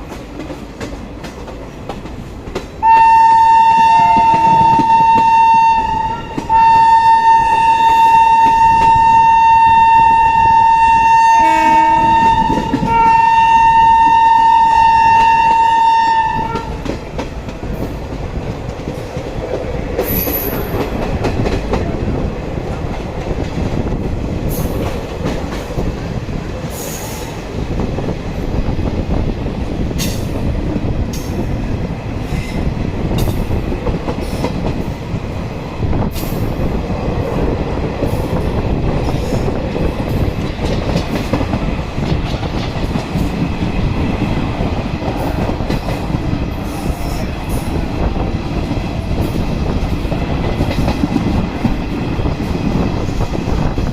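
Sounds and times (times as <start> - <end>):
sharp clacks of train wheels: 0.0 - 53.9
train wheels rumbling on rails: 0.0 - 53.9.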